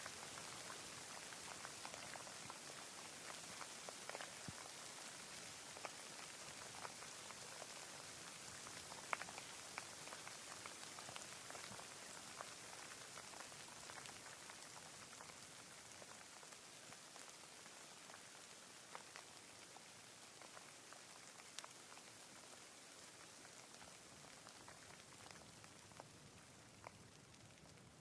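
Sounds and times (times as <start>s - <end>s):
raindrops ticking: 0.0s - 28.0s
steady rain hiss: 0.0s - 28.0s.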